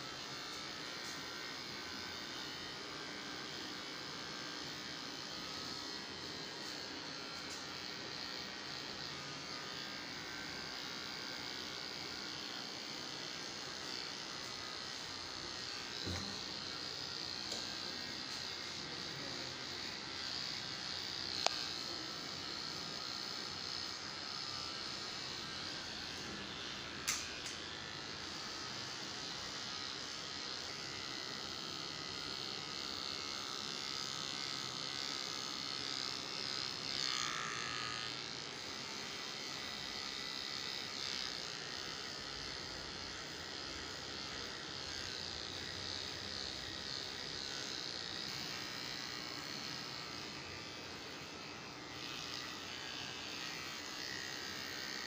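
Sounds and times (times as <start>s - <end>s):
electric clipper buzzing: 0.0s - 55.0s.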